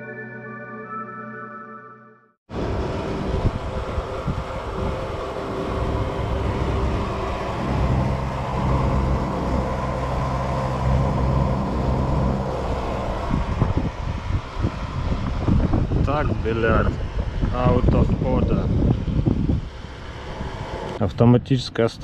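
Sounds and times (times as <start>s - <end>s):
car engine hum: 2.5s - 21.0s
road and wind noise: 2.5s - 22.0s.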